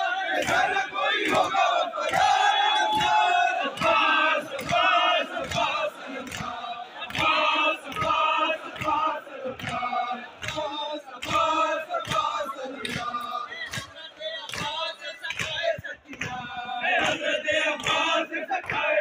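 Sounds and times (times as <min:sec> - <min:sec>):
men chanting in rhythm: 0:00.0 - 0:19.0.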